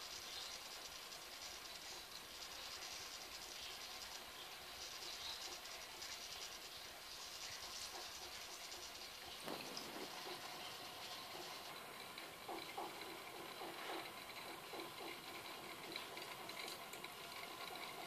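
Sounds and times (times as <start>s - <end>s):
aquarium filter hissing: 0.0s - 18.0s.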